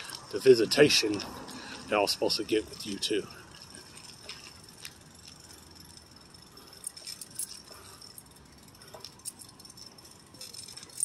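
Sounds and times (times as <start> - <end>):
faint clicks and jingling: 0.0 - 11.0.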